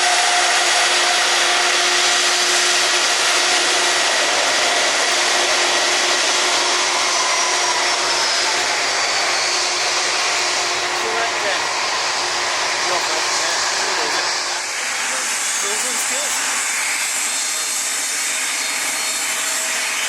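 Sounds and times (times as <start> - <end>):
jet engine roar with whine: 0.0 - 20.0.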